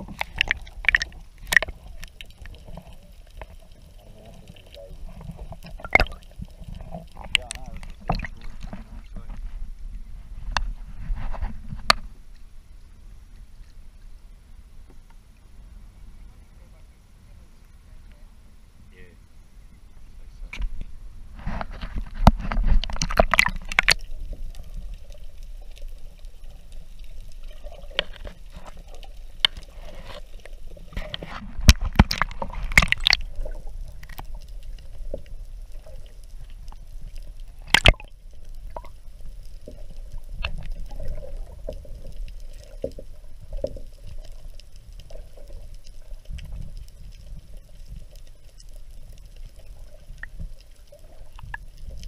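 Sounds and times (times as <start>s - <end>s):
muffled underwater sloshing: 0.0s - 52.0s.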